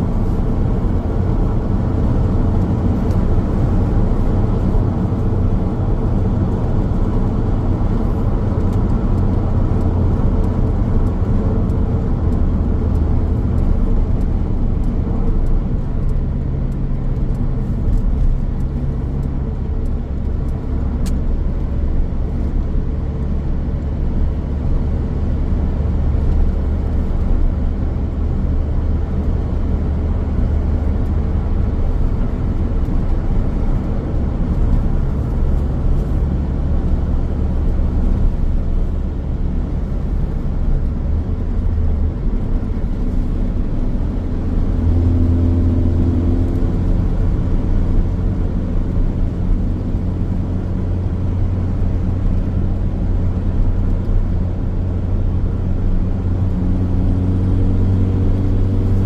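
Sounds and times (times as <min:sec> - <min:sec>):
car engine hum: 0:00.0 - 0:59.0
tyre and road rumble: 0:00.0 - 0:59.0.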